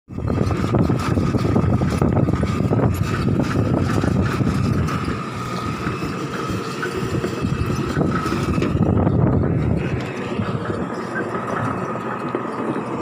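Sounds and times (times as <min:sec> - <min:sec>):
excavator rumbling: 0:00.1 - 0:13.0
excavator whine: 0:00.1 - 0:13.0.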